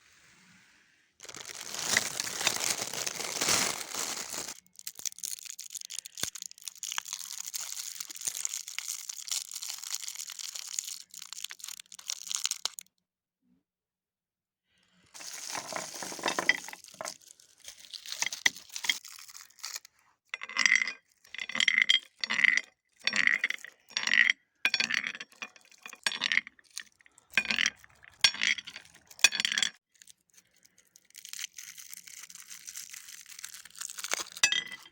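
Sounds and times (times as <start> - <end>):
candy crunching in grinder: 1.2 - 12.9, 15.2 - 20.7, 21.3 - 34.9
candy wrappers rustling and clinking: 1.2 - 12.9, 15.2 - 34.9.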